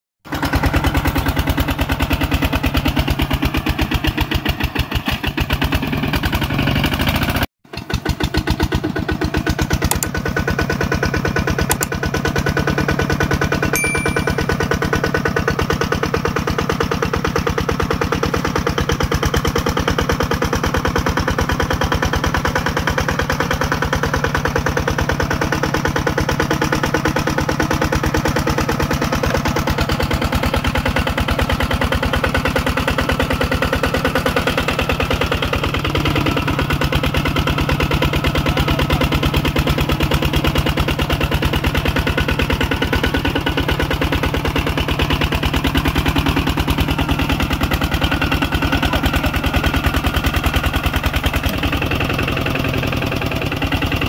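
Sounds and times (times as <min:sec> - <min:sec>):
diesel engine running steadily: 0:00.3 - 0:54.0.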